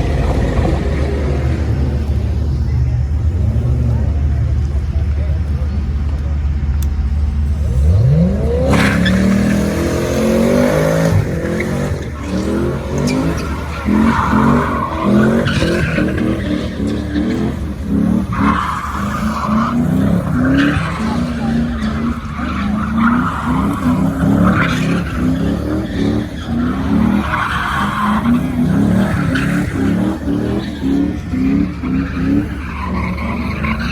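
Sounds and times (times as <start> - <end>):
car engine revving: 0.0 - 33.9
tires squealing: 0.0 - 33.9.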